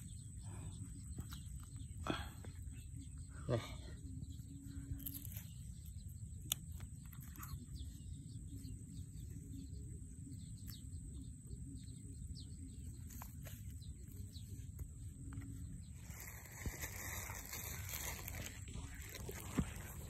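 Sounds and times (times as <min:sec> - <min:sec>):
low outdoor rumble: 0:00.0 - 0:20.0
small birds chirping: 0:00.0 - 0:20.0.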